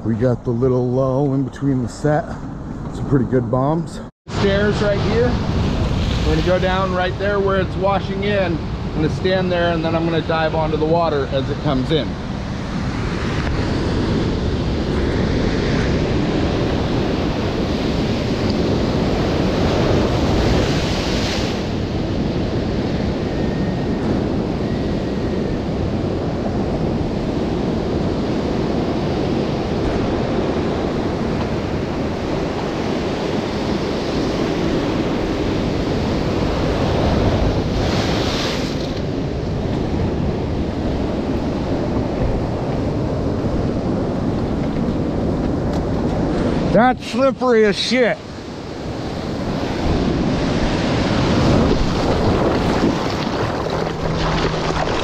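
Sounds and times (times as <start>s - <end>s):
ocean surf over boulders: 4.3s - 55.0s
waves breaking: 4.3s - 55.0s.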